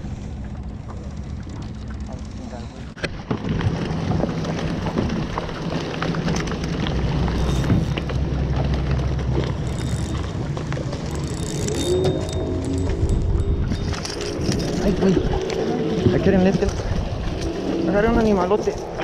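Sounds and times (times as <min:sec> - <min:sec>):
wind buffeting microphone: 0:03.3 - 0:19.0.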